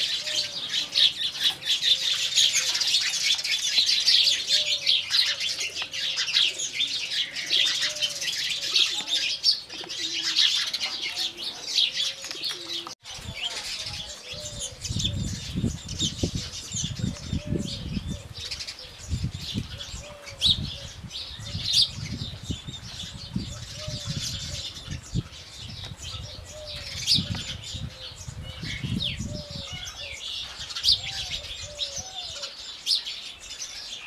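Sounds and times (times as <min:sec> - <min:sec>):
sparrows chirping: 0:00.0 - 0:34.0.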